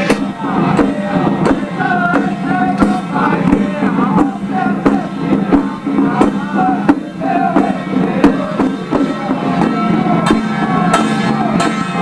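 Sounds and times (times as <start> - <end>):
sharp percussion strikes: 0.0 - 12.0.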